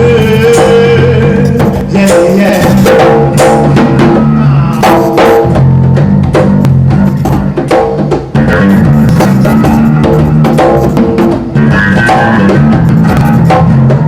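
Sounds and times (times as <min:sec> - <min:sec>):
drum hits: 0:00.0 - 0:14.0
electric bass notes: 0:00.0 - 0:14.0.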